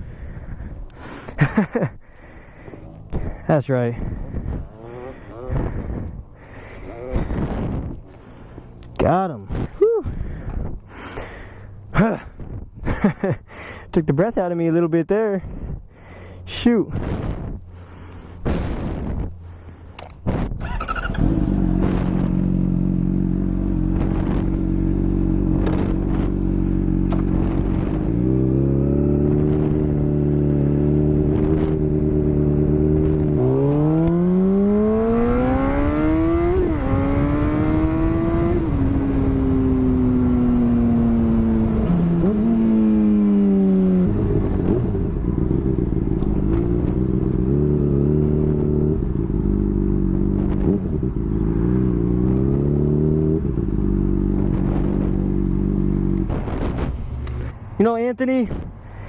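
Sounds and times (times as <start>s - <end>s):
motorcycle engine revving: 0.1s - 10.7s, 17.0s - 57.8s.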